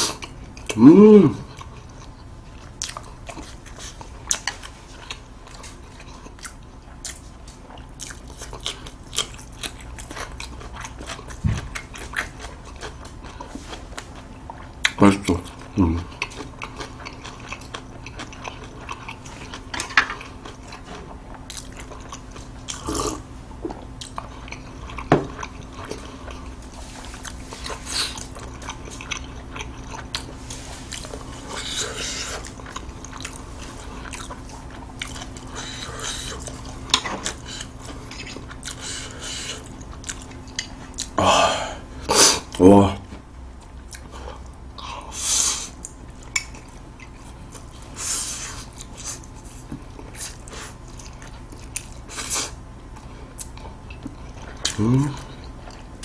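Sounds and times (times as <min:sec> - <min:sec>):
food being chewed: 0:00.0 - 0:00.8, 0:01.4 - 0:41.2, 0:41.8 - 0:56.0
steady low hum: 0:00.0 - 0:56.0.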